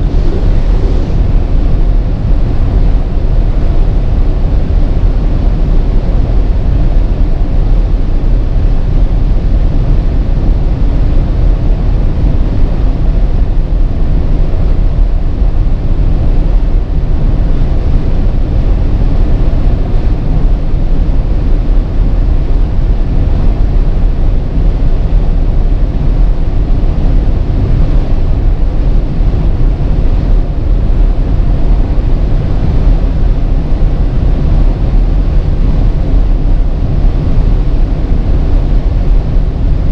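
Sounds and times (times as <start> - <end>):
car driving at speed: 0.0 - 39.9
tyre and wind noise: 0.0 - 39.9.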